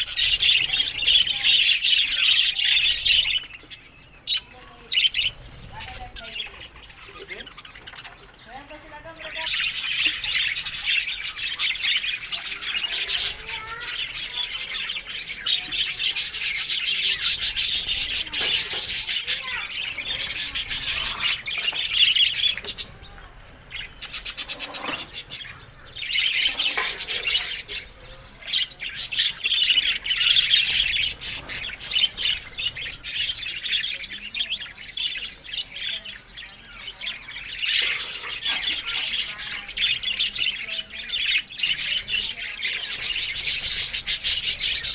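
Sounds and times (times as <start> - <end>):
budgerigars chattering and chirping: 0.0 - 44.9.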